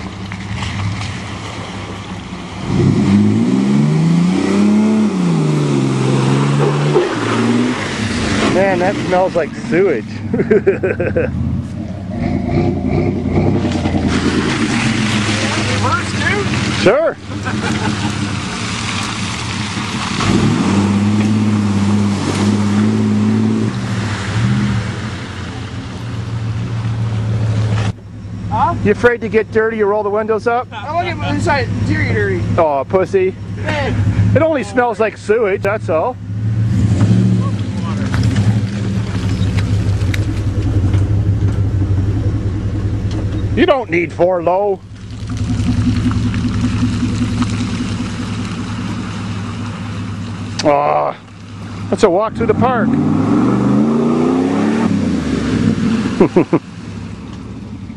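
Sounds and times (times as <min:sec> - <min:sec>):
truck engine revving: 0:00.0 - 0:57.9
tyres churning through mud: 0:00.0 - 0:57.9.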